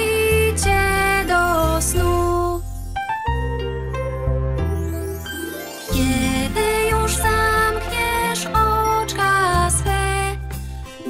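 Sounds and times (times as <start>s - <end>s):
instrumental children's song music: 0.0s - 11.0s.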